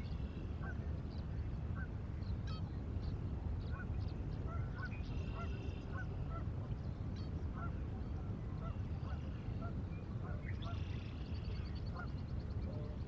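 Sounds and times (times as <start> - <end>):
distant geese honking: 0.0 - 0.9, 1.7 - 2.7, 3.6 - 6.6, 7.2 - 13.0
low outdoor rumble: 0.0 - 13.0.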